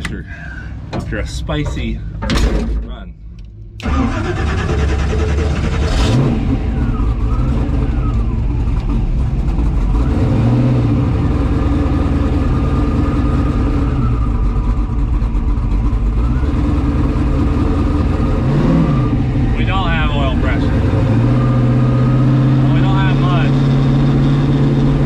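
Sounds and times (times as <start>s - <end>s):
turbocharged car engine running: 0.0s - 25.0s.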